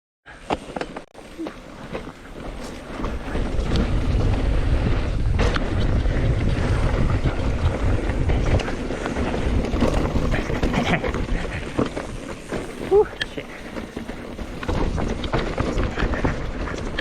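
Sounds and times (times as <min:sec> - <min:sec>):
bike clicking and knocking: 0:01.7 - 0:17.0
wind rushing over microphone: 0:02.8 - 0:17.0.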